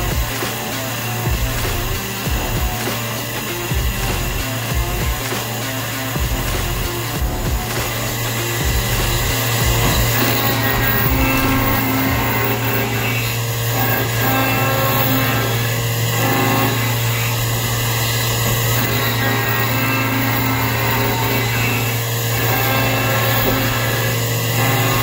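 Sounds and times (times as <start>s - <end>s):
constant low hum: 0.0s - 25.0s
milling machine cutting metal: 0.0s - 25.0s.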